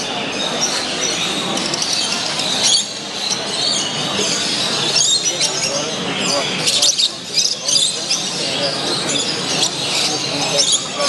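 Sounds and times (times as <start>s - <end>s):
caged birds chirping and squawking: 0.0s - 11.0s.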